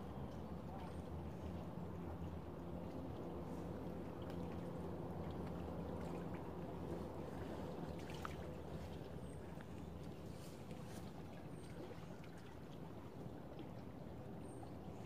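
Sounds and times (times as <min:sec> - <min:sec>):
water lapping at shore: 0:00.0 - 0:15.0.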